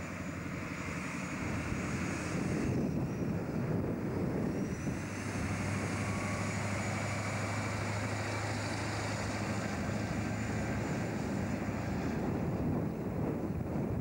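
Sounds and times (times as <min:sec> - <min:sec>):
diesel truck engine passing: 0:00.0 - 0:13.9.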